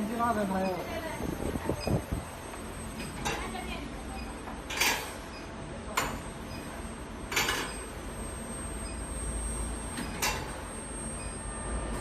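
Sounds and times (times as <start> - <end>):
forging machine humming: 0.0 - 12.0.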